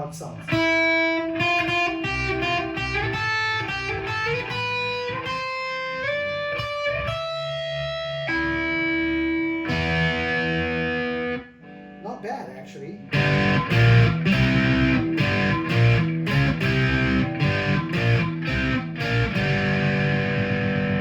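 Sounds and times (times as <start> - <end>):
distorted electric guitar notes: 0.0 - 12.1, 13.0 - 21.0.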